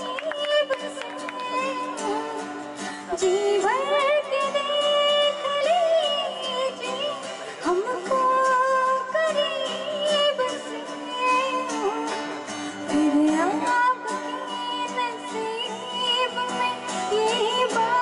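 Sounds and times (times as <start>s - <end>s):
strummed acoustic guitar: 0.0s - 18.0s
woman singing into a microphone: 0.0s - 18.0s.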